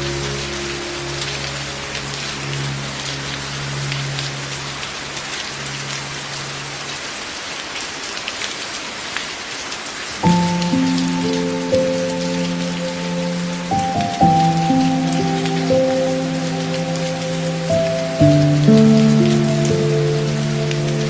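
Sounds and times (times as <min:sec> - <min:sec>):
soft sustained music chords: 0:00.0 - 0:06.8, 0:10.2 - 0:21.0
steady rain: 0:00.0 - 0:21.0.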